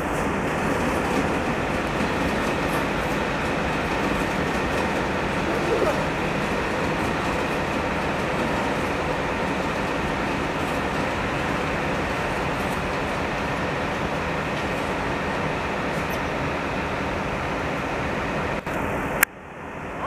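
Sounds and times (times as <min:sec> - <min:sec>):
locomotive wheels on track: 0:00.0 - 0:19.2.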